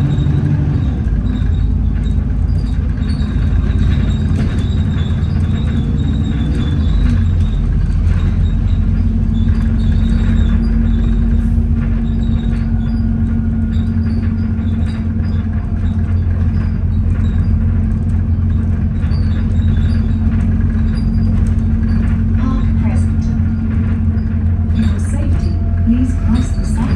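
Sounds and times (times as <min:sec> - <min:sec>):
bus engine drone: 0:00.0 - 0:26.9
constant hum: 0:00.0 - 0:26.9.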